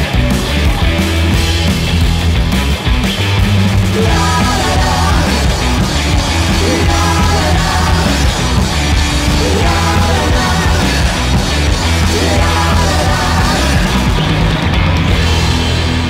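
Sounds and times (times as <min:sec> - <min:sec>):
rock music with singing: 0:00.0 - 0:16.0.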